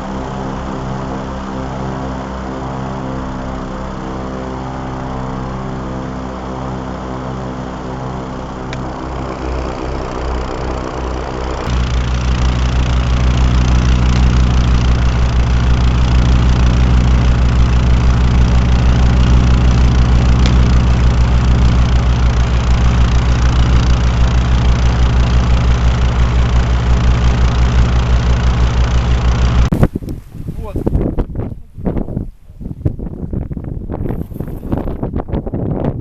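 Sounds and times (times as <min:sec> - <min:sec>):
airboat engines running: 0:00.0 - 0:29.8.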